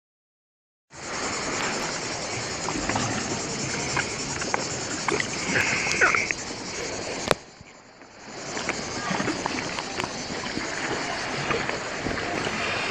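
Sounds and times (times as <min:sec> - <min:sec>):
sea water lapping: 0:01.0 - 0:12.9
distant voices: 0:01.1 - 0:12.9.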